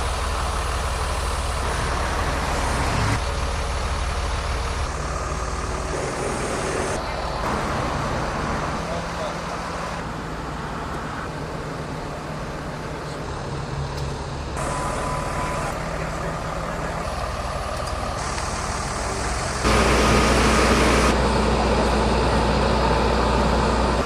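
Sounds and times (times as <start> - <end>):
deep engine rumble: 0.0 - 24.0
road noise: 0.0 - 24.0
vehicle engines idling: 0.0 - 24.0.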